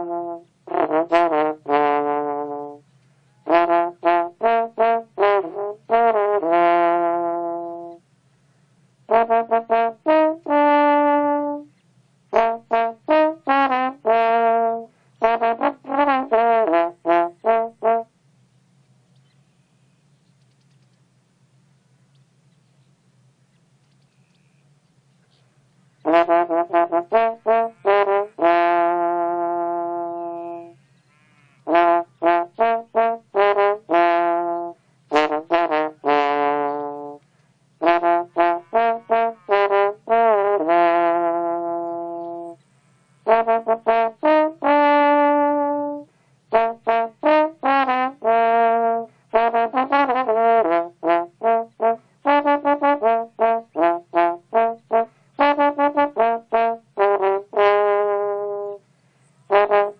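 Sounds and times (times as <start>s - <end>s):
trombone-like melody: 0.0s - 8.0s, 9.1s - 11.7s, 12.3s - 18.1s, 26.0s - 37.2s, 37.8s - 58.8s, 59.5s - 59.9s.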